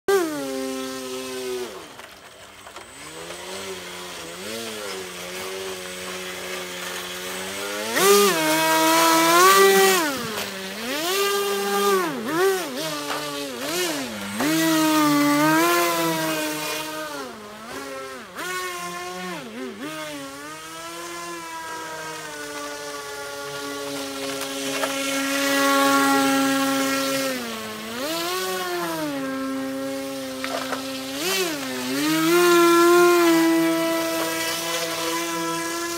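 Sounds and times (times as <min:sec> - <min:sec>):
model airboat motor and propeller: 0:00.1 - 0:35.9.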